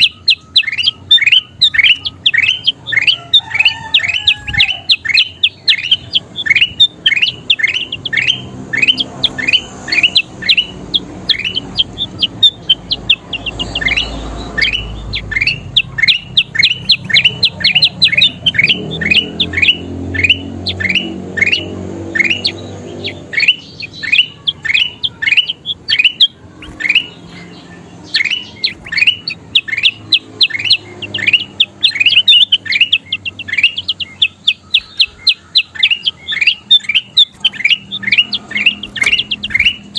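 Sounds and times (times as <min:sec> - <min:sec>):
bulbul singing sharp notes: 0:00.0 - 0:39.9.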